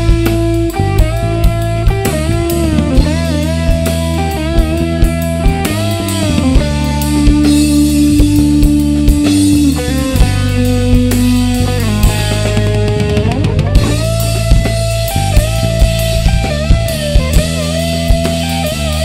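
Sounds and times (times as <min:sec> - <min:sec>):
lead guitar melody: 0:00.0 - 0:19.0
rock band playing: 0:00.0 - 0:19.0.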